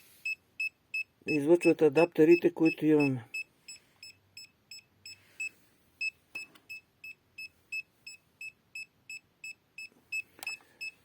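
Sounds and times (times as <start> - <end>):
emf meter beeping: 0.2 - 11.0.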